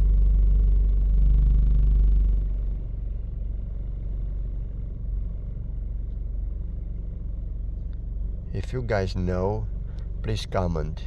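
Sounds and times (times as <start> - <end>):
low steady car noise: 0.0 - 11.0.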